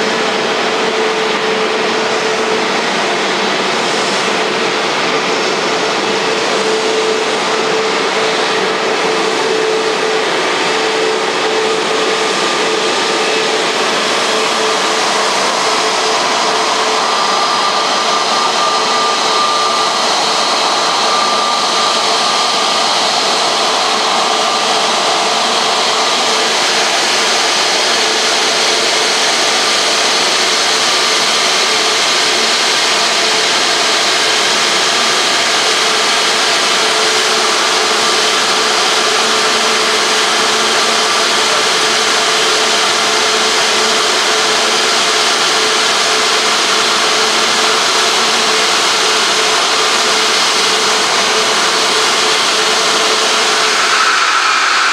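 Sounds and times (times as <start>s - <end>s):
jet engines idling while taxiing: 0.0s - 54.9s.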